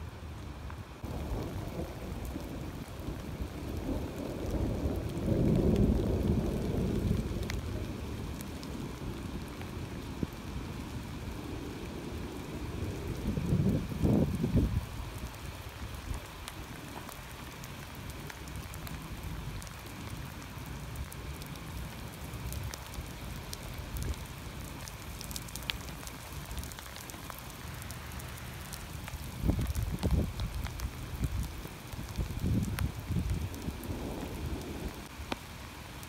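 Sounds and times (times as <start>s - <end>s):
rain pattering on stone paving: 0.1s - 36.0s.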